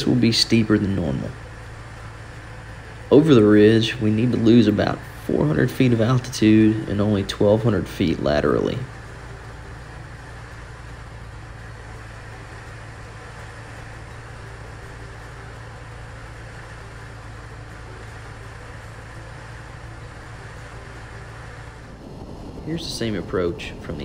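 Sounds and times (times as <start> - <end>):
aircraft engine and propeller drone: 0.0 - 24.0.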